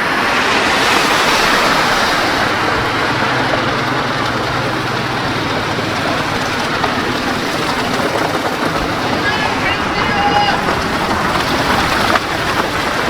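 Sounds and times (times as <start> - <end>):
low vehicle hum: 0.0 - 13.0
traffic rushing: 0.0 - 13.0.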